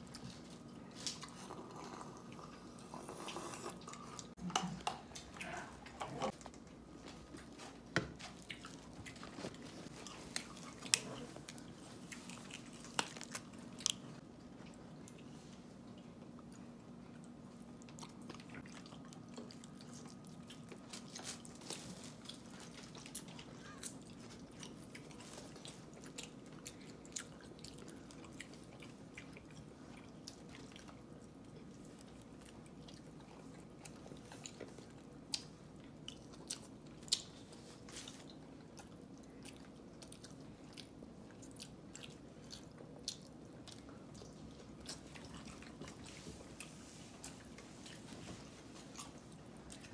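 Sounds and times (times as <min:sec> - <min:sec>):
chewing: 0:00.0 - 0:49.9
faint steady hum: 0:00.0 - 0:49.9.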